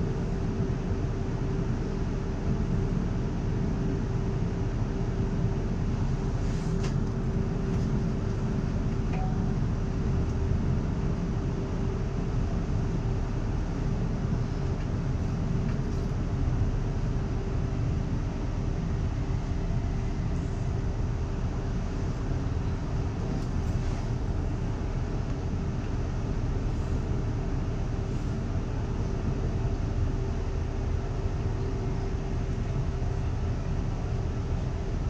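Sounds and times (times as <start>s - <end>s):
train interior rumble and hum: 0.0s - 35.0s.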